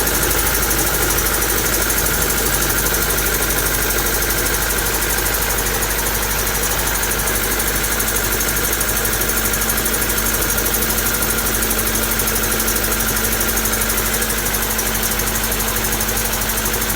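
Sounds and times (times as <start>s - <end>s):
car engine idling roughly: 0.0s - 16.9s
fast even engine knock: 0.0s - 16.9s.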